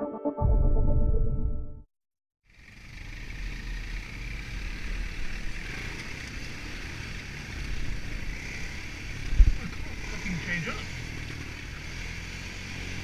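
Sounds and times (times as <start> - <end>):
quad bike engine running: 2.5 - 13.0.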